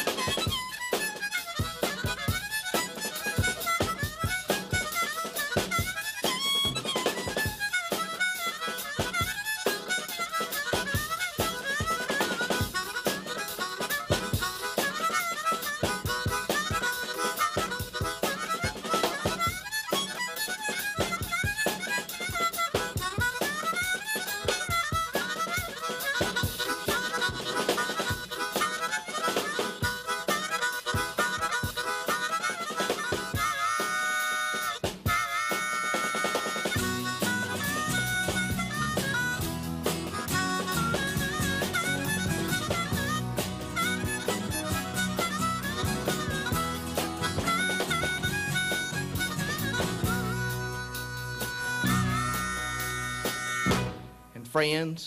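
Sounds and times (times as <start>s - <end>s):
harmonica playing a fast tune: 0.0s - 54.1s.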